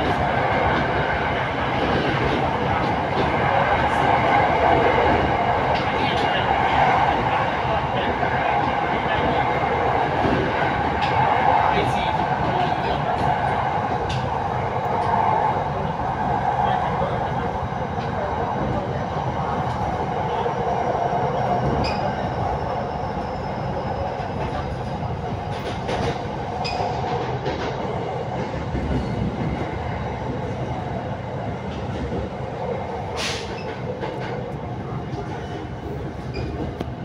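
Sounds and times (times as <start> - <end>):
train wheels rumbling: 0.0 - 37.0.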